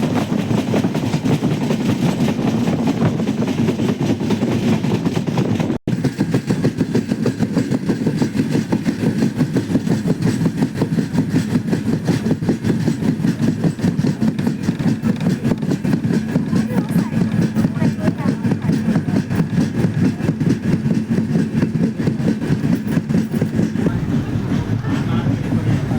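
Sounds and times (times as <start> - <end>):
passenger train rumbling on track: 0.0 - 25.9.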